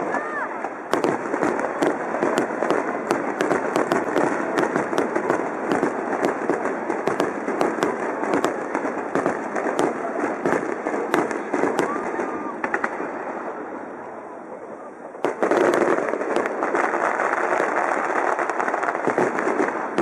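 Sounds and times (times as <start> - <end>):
fireworks bangs: 0.0 - 14.1, 15.1 - 20.0.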